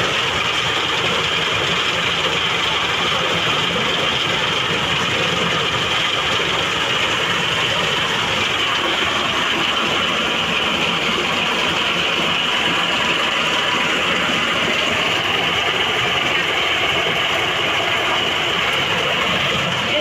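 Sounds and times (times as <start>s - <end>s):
corn sheller mechanical din: 0.0s - 20.0s.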